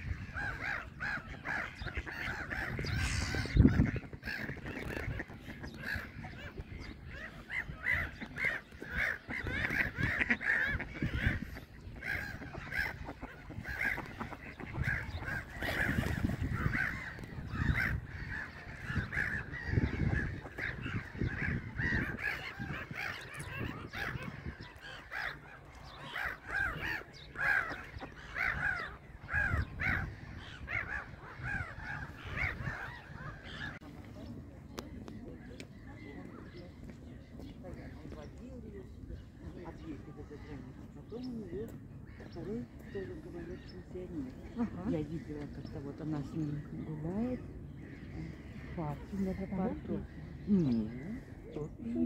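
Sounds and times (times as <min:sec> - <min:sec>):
gulls calling: 0:00.0 - 0:52.0.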